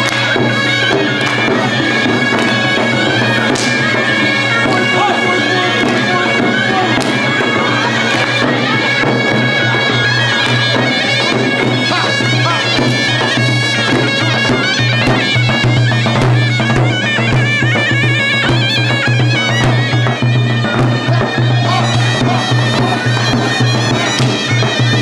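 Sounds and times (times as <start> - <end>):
double-reed pipe melody: 0.0 - 25.0
drum beating rhythm: 0.0 - 25.0.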